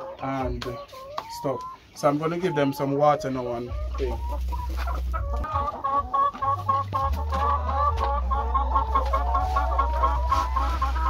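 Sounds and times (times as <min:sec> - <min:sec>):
hens clucking and calling: 0:00.0 - 0:11.0.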